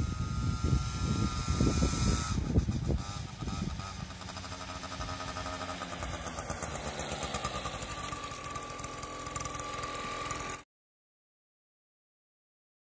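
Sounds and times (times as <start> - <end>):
scooter two-stroke engine running: 0.0 - 10.6.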